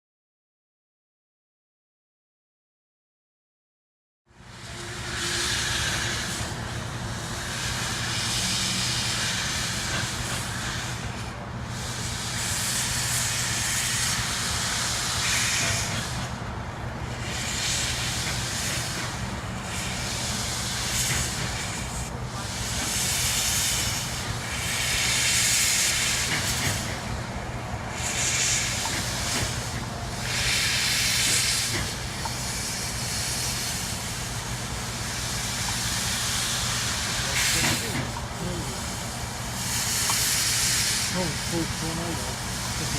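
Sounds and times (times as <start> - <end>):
steam locomotive hissing steam: 4.3 - 42.9.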